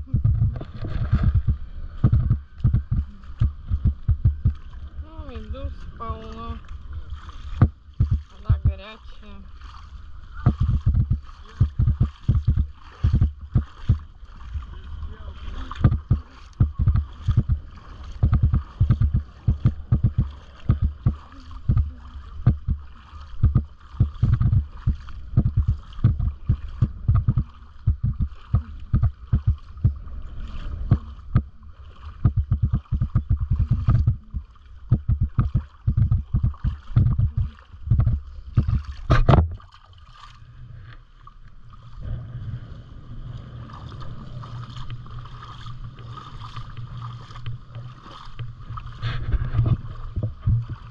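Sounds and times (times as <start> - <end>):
wind buffeting microphone: 0.0 - 39.5, 48.4 - 50.9
low steady hum: 0.0 - 50.9
splashing through shallow water: 0.0 - 50.9.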